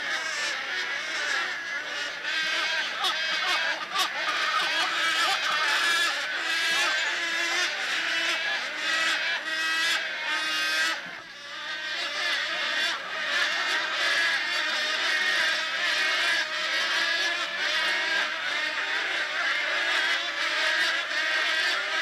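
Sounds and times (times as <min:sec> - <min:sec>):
chorus of wavering animal calls: 0:00.0 - 0:22.0
low repeating animal call: 0:00.0 - 0:22.0.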